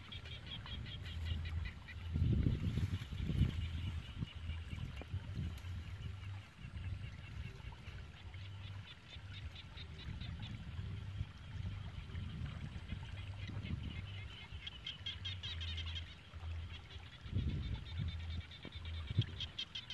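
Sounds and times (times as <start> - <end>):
frogs calling: 0.0 - 19.9.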